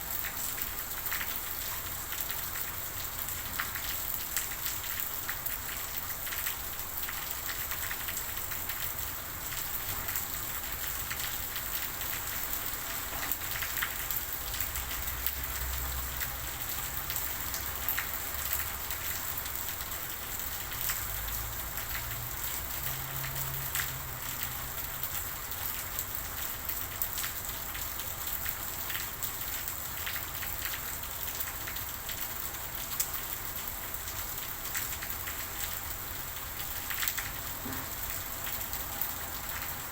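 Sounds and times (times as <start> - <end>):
steady rain with dripping ticks: 0.0 - 39.9.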